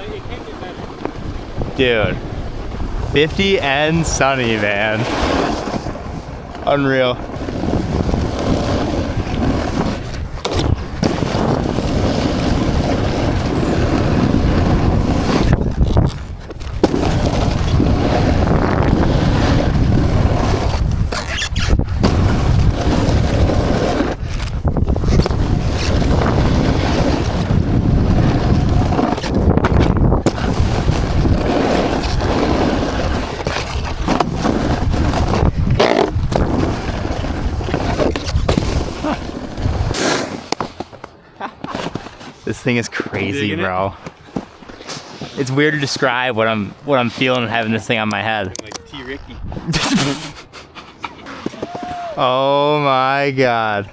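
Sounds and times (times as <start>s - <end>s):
wind rushing over microphone: 0.0s - 40.4s, 45.4s - 49.8s
skis sliding on snow: 0.0s - 50.4s.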